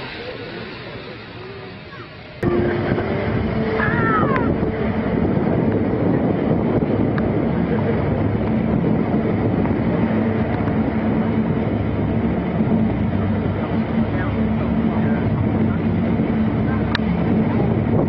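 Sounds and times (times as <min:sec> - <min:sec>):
jet engines running at low power: 0:00.0 - 0:18.0
low hum: 0:00.0 - 0:18.0.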